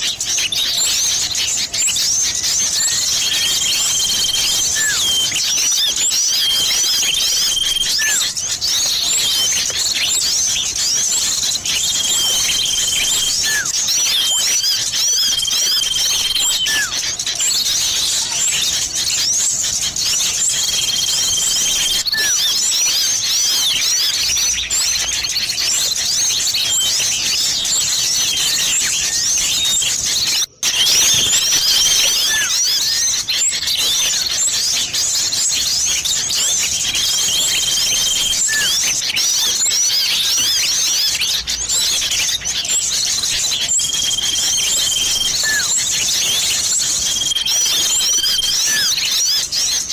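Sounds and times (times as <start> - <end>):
bird calls: 0.0 - 49.9
songbirds chirping: 0.0 - 49.9.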